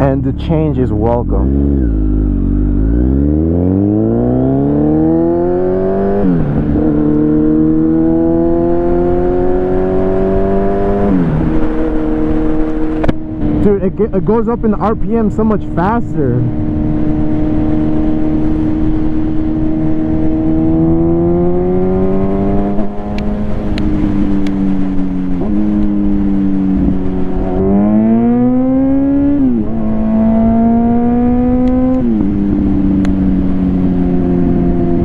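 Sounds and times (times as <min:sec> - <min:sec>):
motorcycle accelerating through gears: 0:01.1 - 0:14.1, 0:15.6 - 0:35.0.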